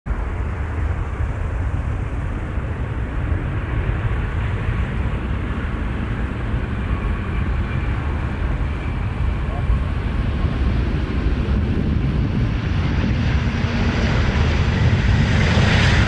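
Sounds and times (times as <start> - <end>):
jet engine roar: 0.1 - 16.0.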